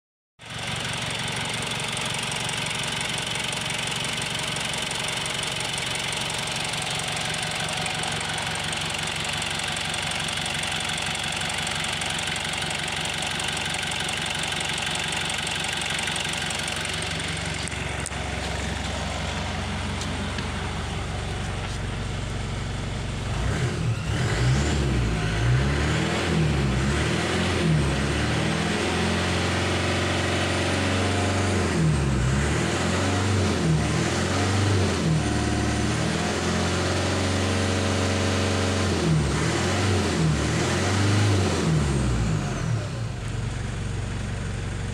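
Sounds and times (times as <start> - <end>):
diesel engine idling and revving: 0.4 - 44.9.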